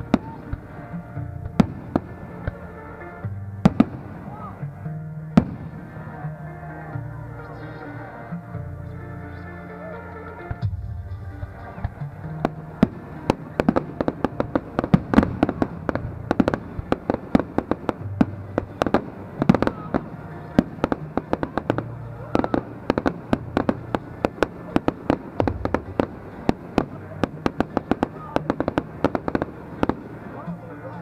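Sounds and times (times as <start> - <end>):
fireworks bangs: 0.0 - 3.0, 3.6 - 4.7, 5.3 - 6.2, 10.4 - 30.4
fireworks crackling and popping: 0.0 - 3.0, 3.6 - 4.6, 5.4 - 6.2, 10.4 - 30.4.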